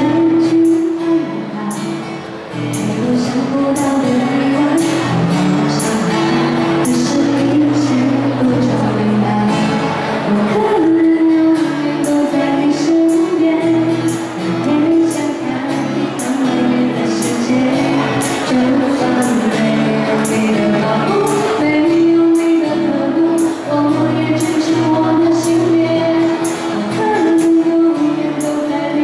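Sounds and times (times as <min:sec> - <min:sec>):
woman singing pop song: 0:00.0 - 0:29.0.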